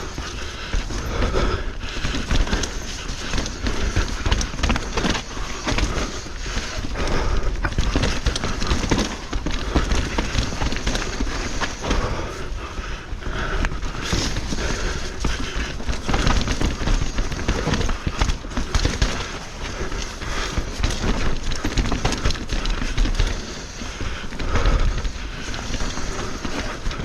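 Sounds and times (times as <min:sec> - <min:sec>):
bike knocking and rattling: 0:00.0 - 0:27.0
tyres rolling on dirt and rock: 0:00.0 - 0:27.0.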